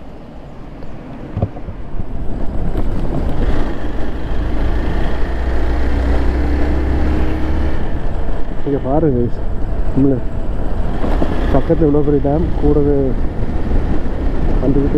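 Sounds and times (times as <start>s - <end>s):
wind rumbling on microphone: 0.0s - 14.9s
motorcycle engine accelerating: 2.1s - 14.9s.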